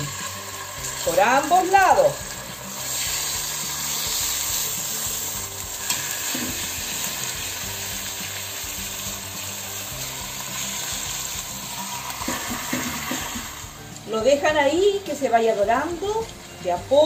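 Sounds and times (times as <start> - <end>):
beef sizzling in oil: 0.0 - 17.0.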